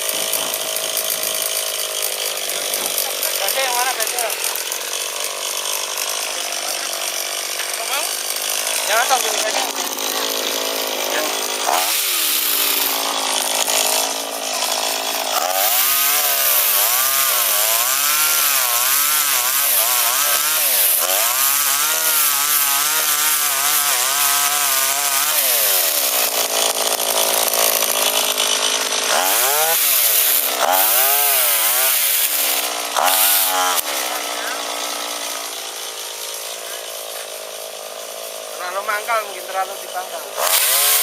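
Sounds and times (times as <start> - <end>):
small engine revving: 0.0 - 41.0.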